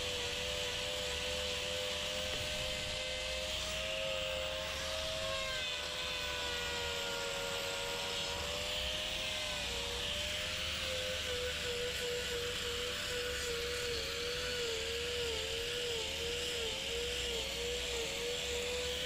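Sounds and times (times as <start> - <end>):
angle grinder grinding hoof: 0.0 - 19.0.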